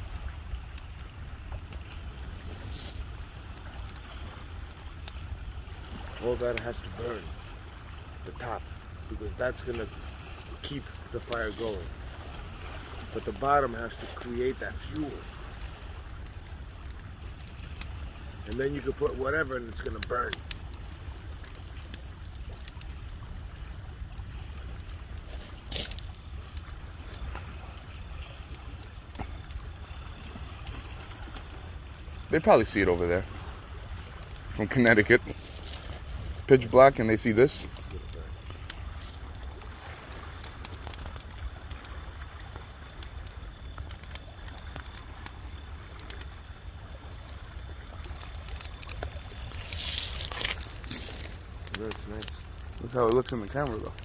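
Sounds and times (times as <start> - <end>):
bonfire crackling and popping: 0.0 - 54.0.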